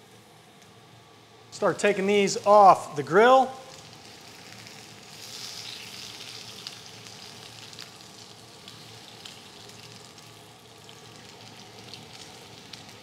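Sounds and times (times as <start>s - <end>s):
potatoes sizzling in a skillet: 2.4s - 13.0s.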